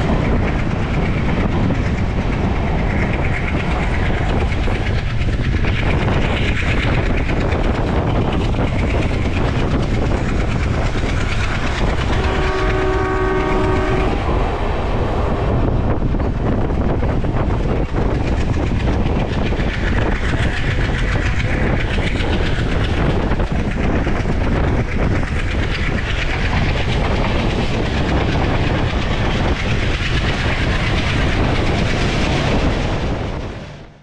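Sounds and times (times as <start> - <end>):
rushing air: 0.0 - 34.0
train wheel and rail noise: 0.0 - 34.0.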